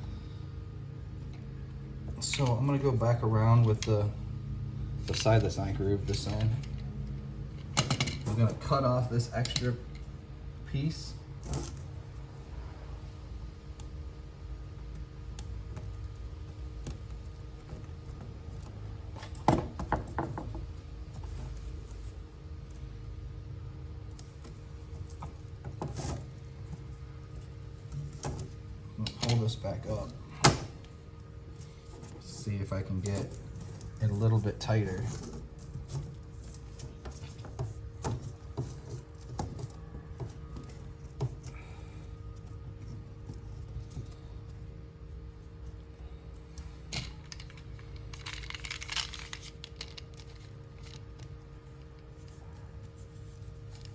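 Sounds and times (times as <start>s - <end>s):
low steady rumble: 0.0s - 53.9s
steady low hum: 0.0s - 53.9s.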